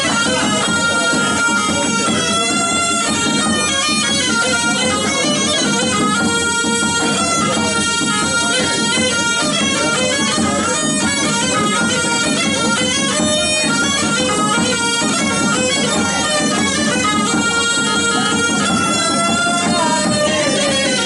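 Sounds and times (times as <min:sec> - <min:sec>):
bagpipe playing folk melody: 0:00.0 - 0:21.0
drum beating: 0:00.0 - 0:21.0.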